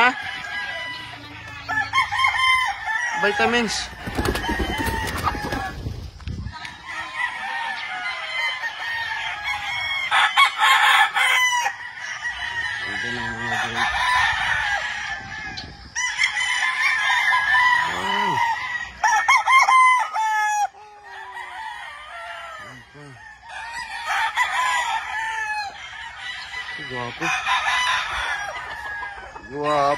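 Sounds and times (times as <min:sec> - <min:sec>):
roosters crowing: 0:00.0 - 0:29.9.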